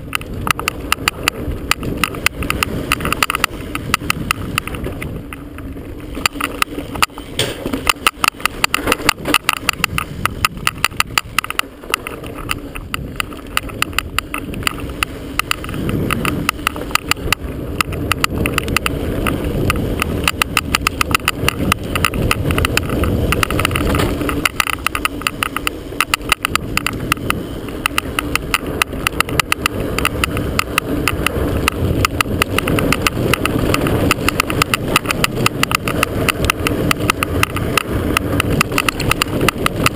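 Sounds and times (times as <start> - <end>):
bike tyres on dirt trail: 0.0 - 39.9
wind: 0.0 - 39.9
camera rattling in mount: 0.1 - 5.4, 6.1 - 39.9.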